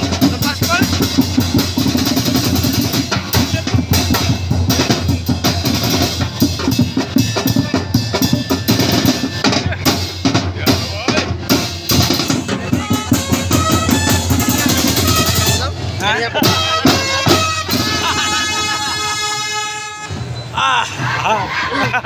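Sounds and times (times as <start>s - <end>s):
bass and snare drums playing: 0.0s - 20.2s.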